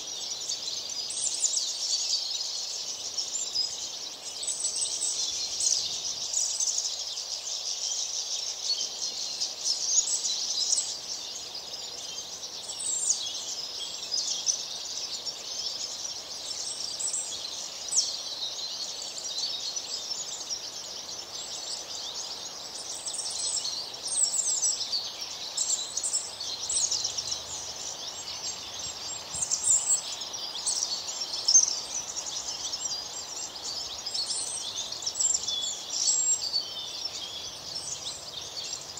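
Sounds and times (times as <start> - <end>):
faint background hiss: 0.0 - 38.9
small birds chirping: 0.0 - 38.9.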